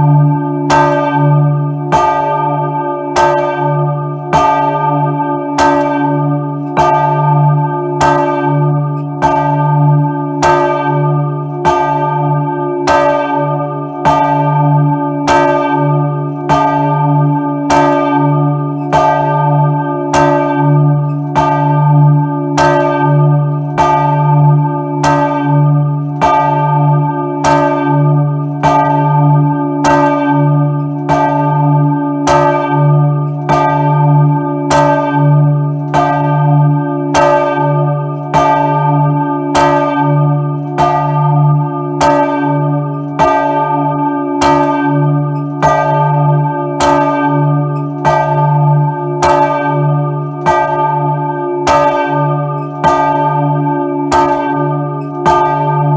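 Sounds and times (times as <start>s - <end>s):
church bell ringing: 0.0s - 55.9s.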